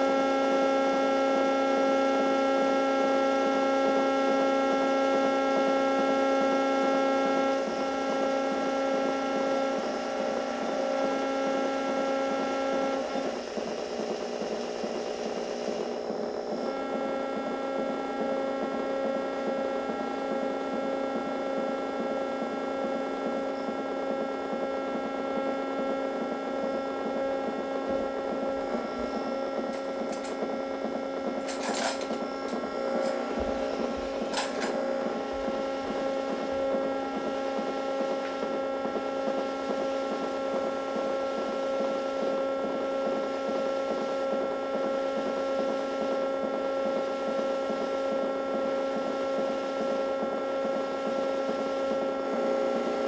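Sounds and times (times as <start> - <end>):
electronic drone: 0.0 - 53.0.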